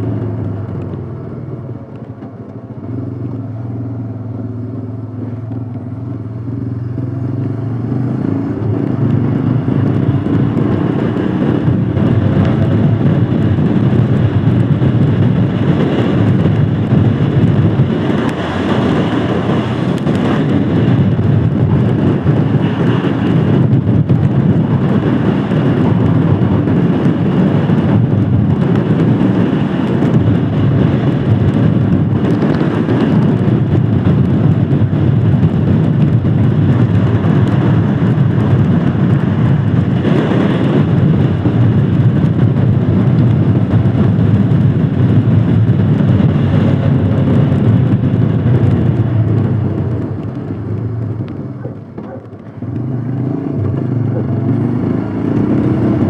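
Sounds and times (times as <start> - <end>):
motorcycle engine pulling away: 0.0 - 56.0
wind and road noise: 0.0 - 56.0.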